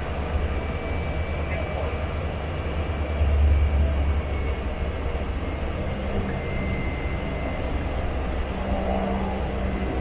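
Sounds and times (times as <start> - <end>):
turboprop engine drone: 0.0 - 10.0.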